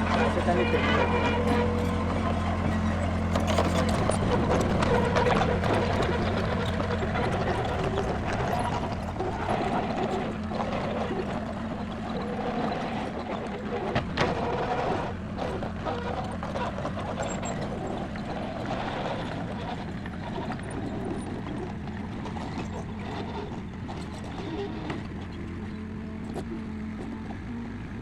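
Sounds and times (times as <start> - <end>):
diesel engine running: 0.0 - 28.0
engine clattering: 0.0 - 28.0.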